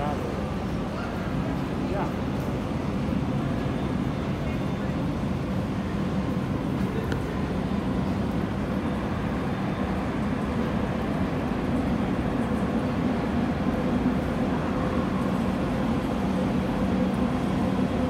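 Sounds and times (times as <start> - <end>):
underground station rumble: 0.0 - 18.0.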